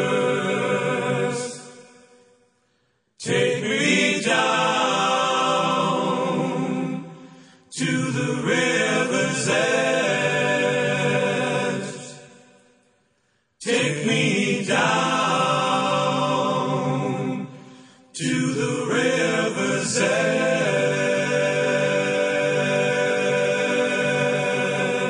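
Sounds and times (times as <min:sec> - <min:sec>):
slow choral singing: 0:00.0 - 0:25.0.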